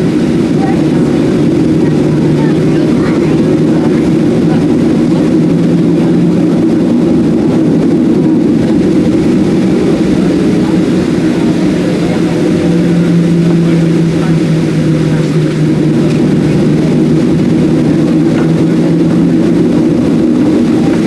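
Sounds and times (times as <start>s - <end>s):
jet engine roar inside cabin: 0.0s - 21.0s.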